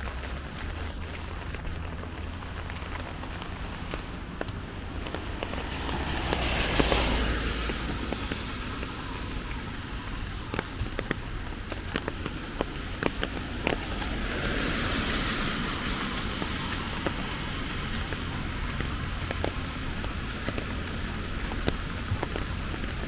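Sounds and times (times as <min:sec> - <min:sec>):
rain falling: 0:00.0 - 0:23.0
raindrops ticking close by: 0:00.0 - 0:23.0.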